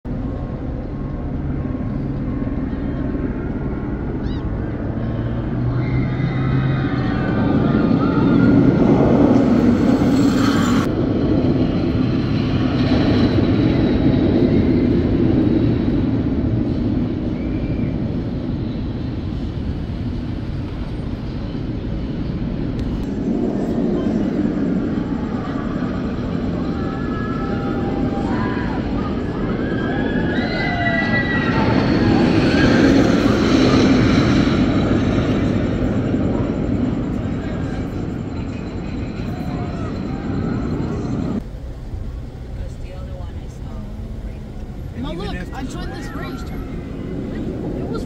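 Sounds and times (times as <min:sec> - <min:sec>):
vehicle engine low hum: 0:00.1 - 0:29.6, 0:32.8 - 0:48.0
city traffic din: 0:00.1 - 0:48.0
roller coaster rumbling on track: 0:00.1 - 0:48.0.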